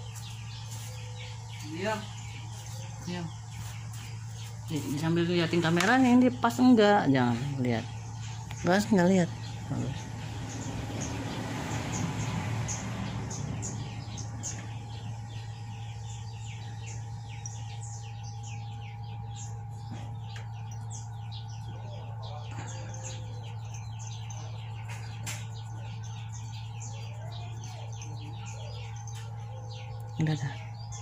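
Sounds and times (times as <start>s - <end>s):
small birds chirping: 0.0s - 31.0s
steady low hum: 0.0s - 31.0s.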